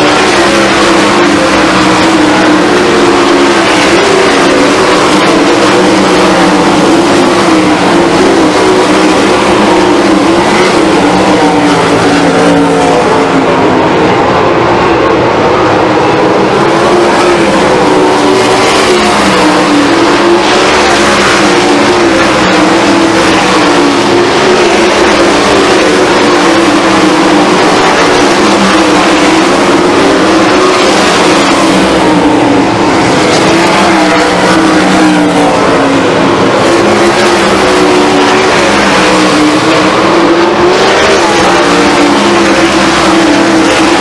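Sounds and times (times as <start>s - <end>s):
racing car engines: 0.0s - 44.0s.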